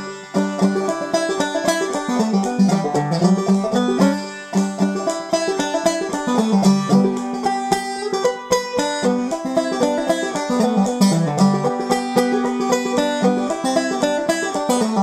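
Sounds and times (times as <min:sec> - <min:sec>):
banjo playing: 0:00.0 - 0:15.0.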